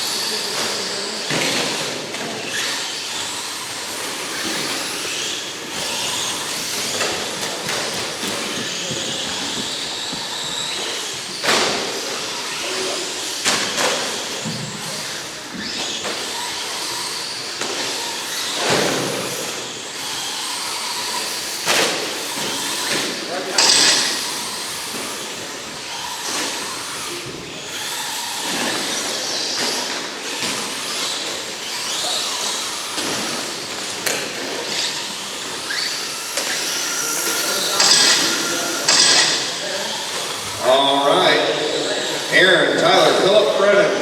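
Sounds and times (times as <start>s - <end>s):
rc car motors and tyres hissing: 0.0s - 43.6s
motor whines: 0.0s - 44.0s.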